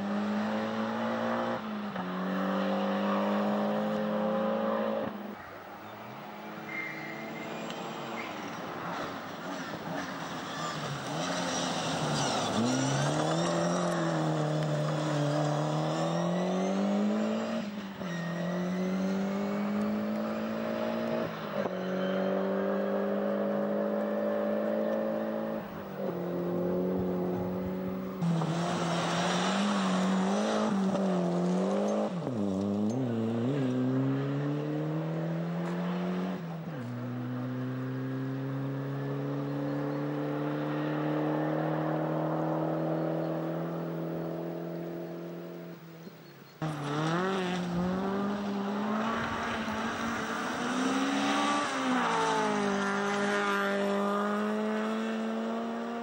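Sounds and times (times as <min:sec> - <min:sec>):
rally car engines revving: 0:00.0 - 0:05.4, 0:06.2 - 0:56.0.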